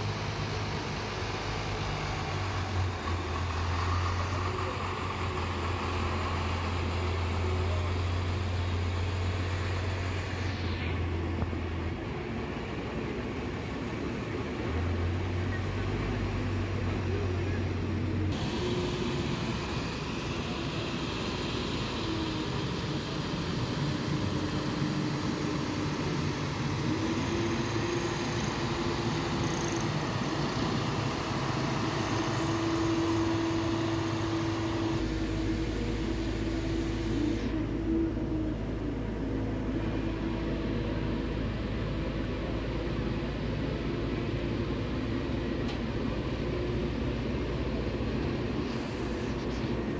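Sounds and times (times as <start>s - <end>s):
heavy vehicle engines driving past: 0.0s - 49.9s
street noise: 0.0s - 49.9s.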